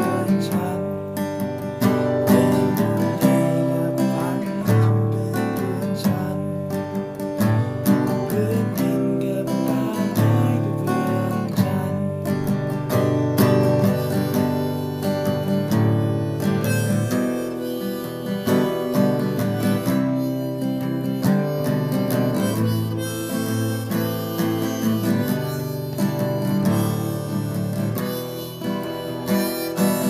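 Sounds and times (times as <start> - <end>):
acoustic guitar strumming: 0.0 - 30.0
harmonica notes: 0.0 - 30.0.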